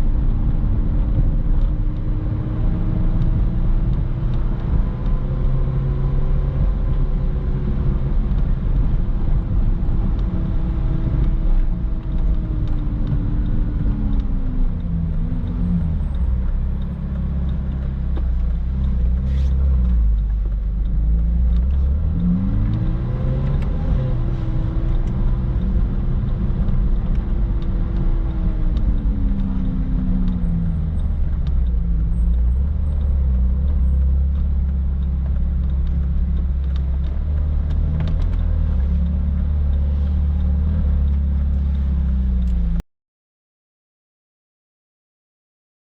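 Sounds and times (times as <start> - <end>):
road rumble: 0.0 - 42.8
sports car engine driving: 0.0 - 42.8.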